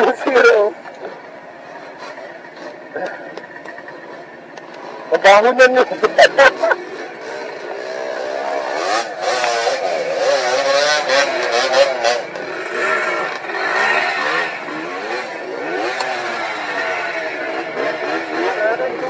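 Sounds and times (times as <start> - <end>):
two-stroke dirt bike engine revving: 0.0 - 19.0.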